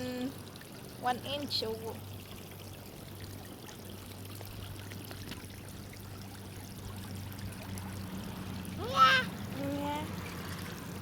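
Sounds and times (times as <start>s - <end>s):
water pouring onto a slide: 0.0s - 11.0s.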